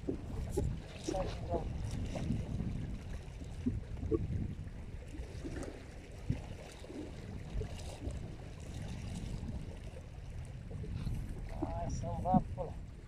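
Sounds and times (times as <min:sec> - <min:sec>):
waves lapping on rocky shore: 0:00.0 - 0:13.0
wind rumbling on microphone: 0:00.0 - 0:13.0.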